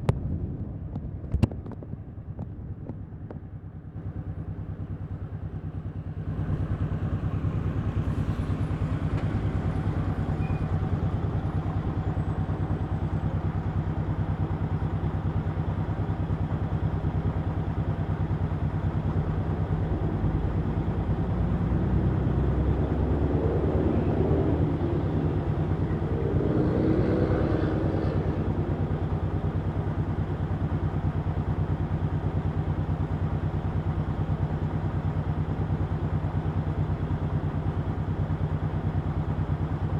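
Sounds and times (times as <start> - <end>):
motorcycle engine running: 0.9 - 39.9.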